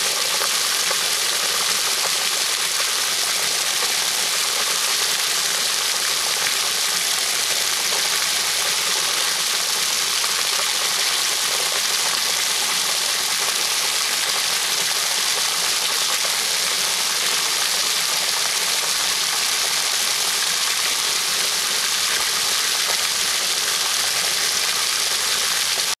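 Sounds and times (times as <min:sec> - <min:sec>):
water pouring into plastic pool: 0:00.0 - 0:26.0.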